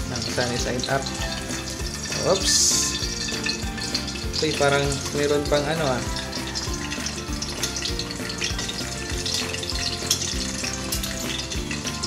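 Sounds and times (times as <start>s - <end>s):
background music with held notes: 0.0s - 12.0s
egg sizzling in a pan: 0.0s - 12.0s.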